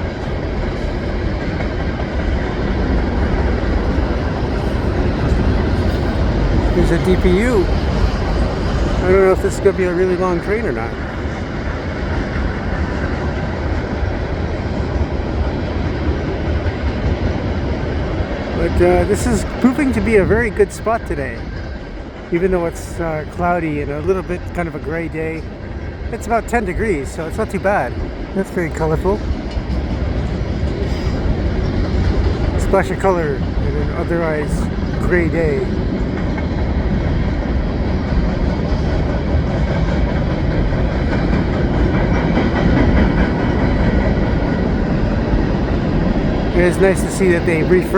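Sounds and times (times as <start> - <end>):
freight train wheels on rail: 0.0 - 47.9.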